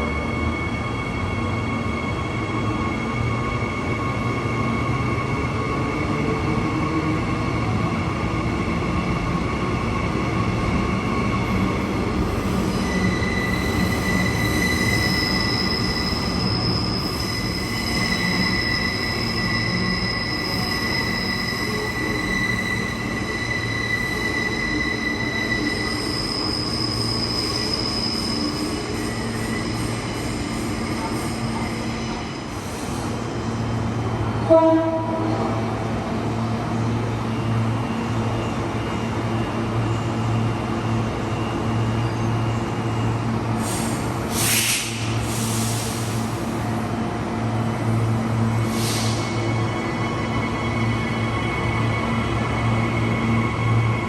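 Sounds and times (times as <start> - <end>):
train wheels squealing: 0.0 - 34.4, 37.0 - 46.9, 47.8 - 54.0.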